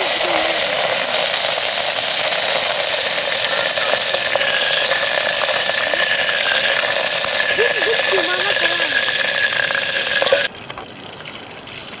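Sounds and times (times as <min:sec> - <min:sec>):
pot boiling with loud hiss: 0:00.0 - 0:10.5
fire crackling: 0:00.0 - 0:11.2.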